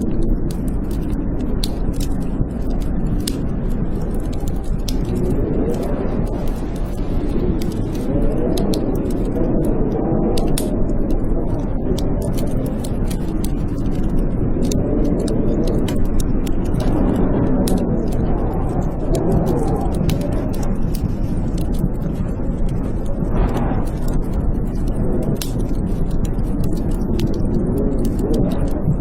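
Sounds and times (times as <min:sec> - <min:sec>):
blizzard wind howling: 0:00.0 - 0:29.0
low rumble: 0:00.0 - 0:29.0
wood fire crackling and popping: 0:00.0 - 0:29.0.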